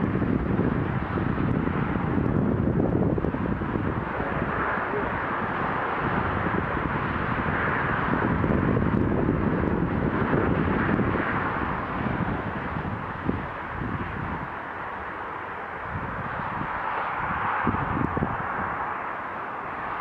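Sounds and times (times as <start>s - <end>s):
motorway traffic hum: 0.0s - 20.0s.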